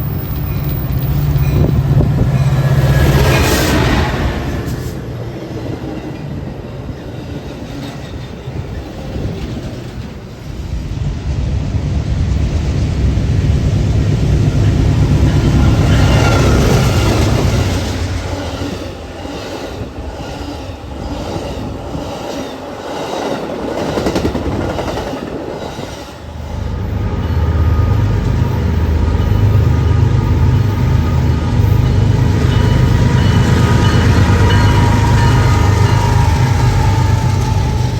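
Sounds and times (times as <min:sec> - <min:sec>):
train rumble: 0:00.0 - 0:37.9.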